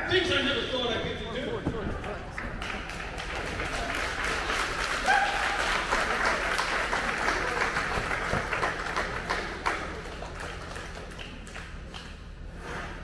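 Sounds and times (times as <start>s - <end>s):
audience clapping: 2.0s - 12.4s.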